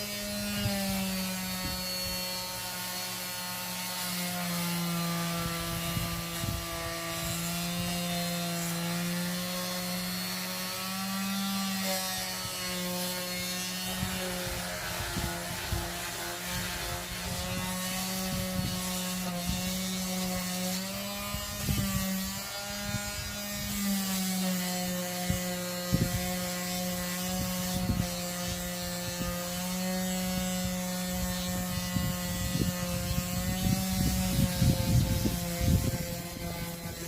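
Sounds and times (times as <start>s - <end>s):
electric sander humming: 0.0s - 37.0s
scraping on wood: 0.0s - 37.0s.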